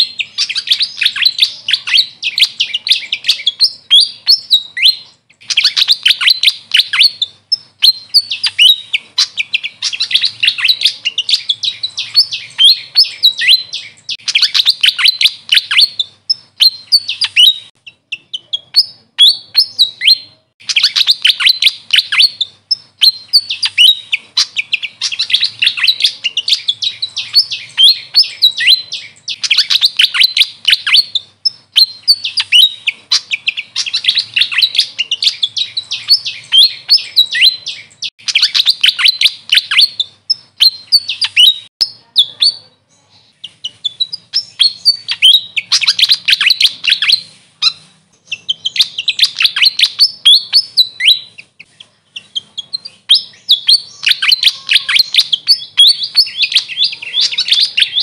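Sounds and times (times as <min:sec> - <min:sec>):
bird chirping squeaky notes: 0:00.0 - 0:58.0.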